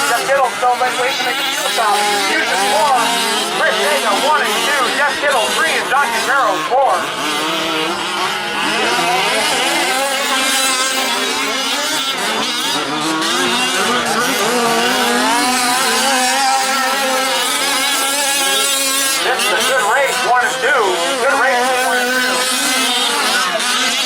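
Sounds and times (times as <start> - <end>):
rc truck engines racing: 0.0 - 24.0.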